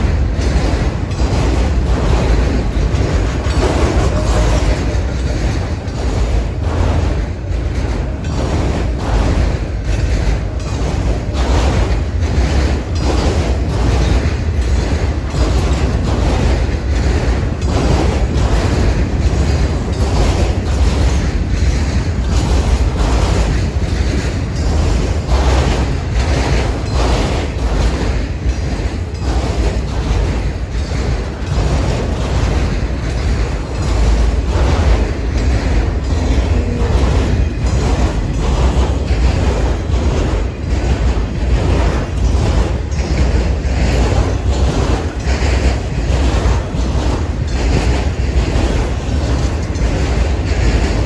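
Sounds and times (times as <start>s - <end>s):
freight train rumbling past: 0.0s - 51.0s
train wheels clicking over rail joints: 0.0s - 51.0s.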